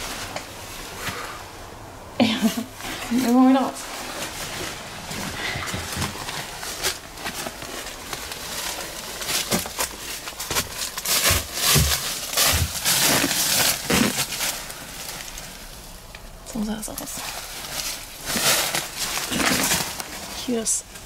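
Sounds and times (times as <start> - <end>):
dry leaves rustling and crackling: 2.4 - 21.0.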